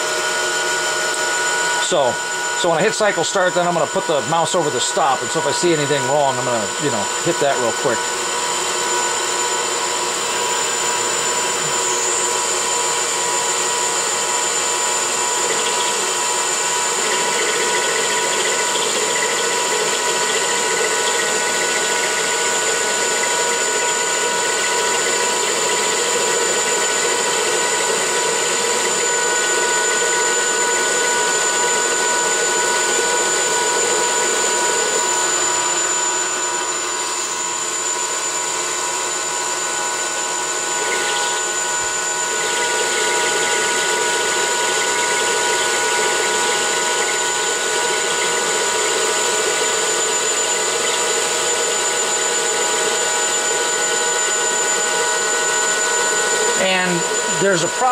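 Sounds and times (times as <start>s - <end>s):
lathe spindle whining: 0.0s - 57.9s
lathe tool cutting metal: 0.0s - 57.9s.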